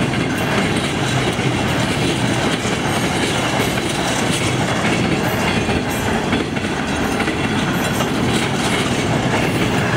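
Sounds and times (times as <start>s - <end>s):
train wheels rumbling on rail: 0.0s - 9.9s
wheels clacking over rail joints: 0.0s - 9.9s.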